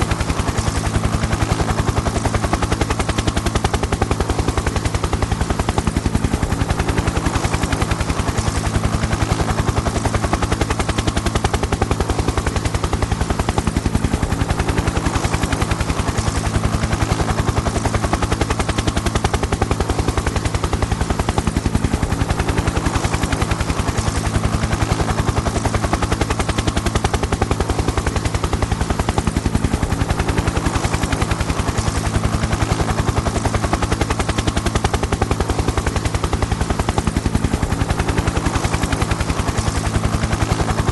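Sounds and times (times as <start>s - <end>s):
helicopter rotor chopping: 0.0s - 40.9s.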